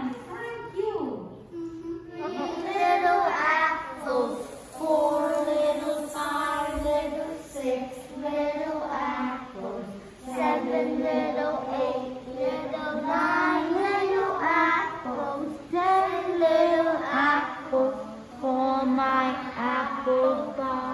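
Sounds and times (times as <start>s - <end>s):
children and woman singing: 0.0s - 20.9s.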